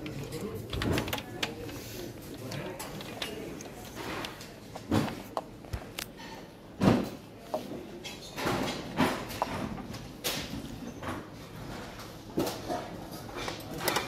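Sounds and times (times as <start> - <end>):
knocks and clatters on shelving: 0.0 - 1.8, 2.4 - 14.0.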